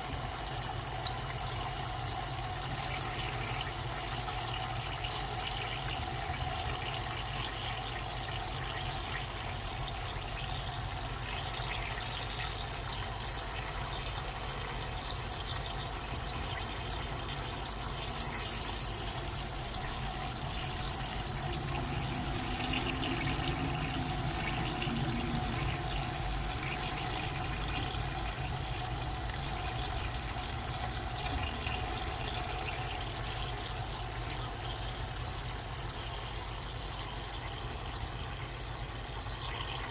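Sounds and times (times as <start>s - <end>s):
dry ice bubbling in water: 0.0s - 39.9s.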